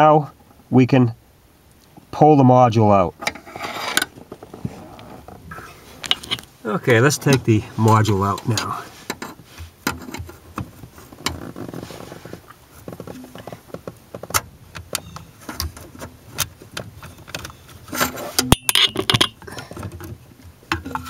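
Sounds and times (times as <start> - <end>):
wiring rustling: 3.2 - 21.0.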